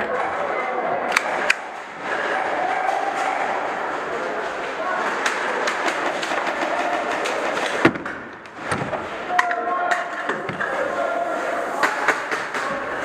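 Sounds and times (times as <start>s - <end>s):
steady noisy background: 0.0s - 13.0s.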